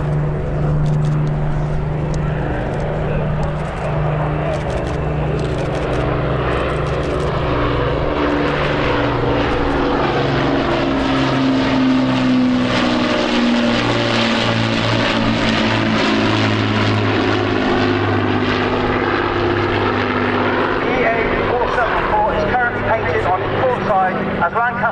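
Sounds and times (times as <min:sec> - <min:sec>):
propeller aircraft engines: 0:00.0 - 0:24.9.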